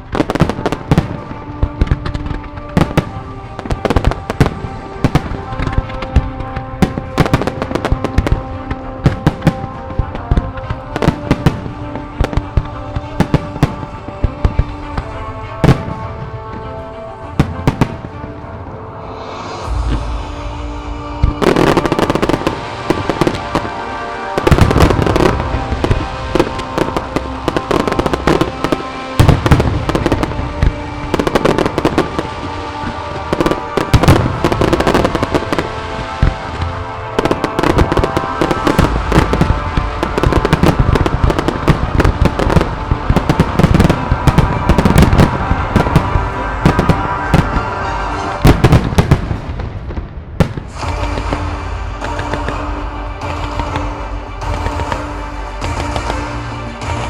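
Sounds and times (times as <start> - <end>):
fireworks bangs and crackles: 0.0 - 57.0
music playing: 0.0 - 57.0.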